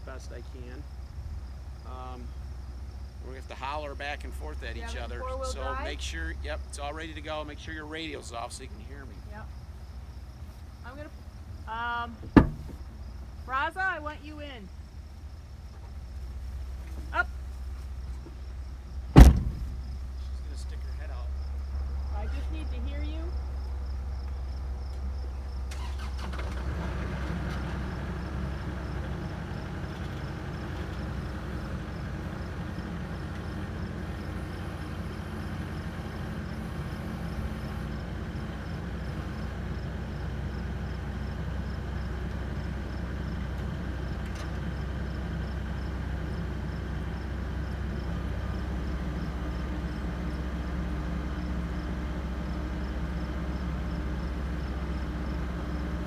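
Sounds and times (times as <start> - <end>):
vehicle engines under load: 0.0 - 56.0.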